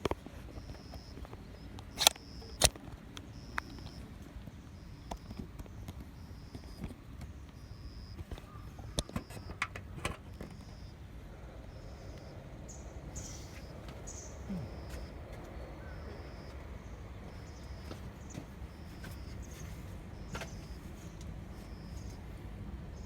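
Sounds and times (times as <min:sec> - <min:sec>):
faint high chirp pulses: 0:00.5 - 0:06.9, 0:07.5 - 0:09.6, 0:10.3 - 0:23.0.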